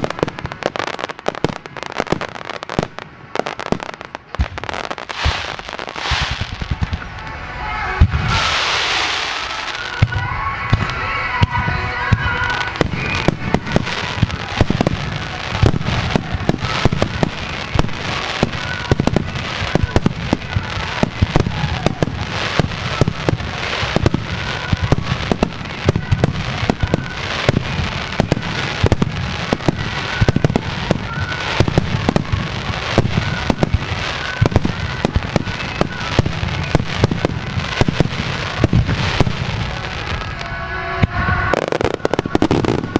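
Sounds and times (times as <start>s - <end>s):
loud hiss: 1.8s - 42.9s.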